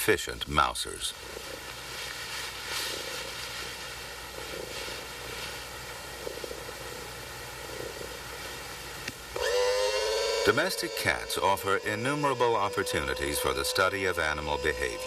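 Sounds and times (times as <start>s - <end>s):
steady hiss: 0.0s - 15.0s
low hum: 1.1s - 15.0s.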